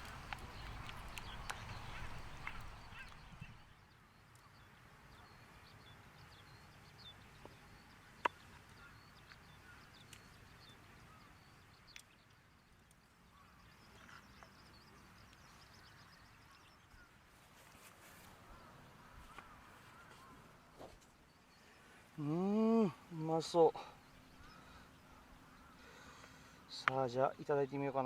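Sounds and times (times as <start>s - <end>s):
faint bird chirps: 0.0s - 28.0s.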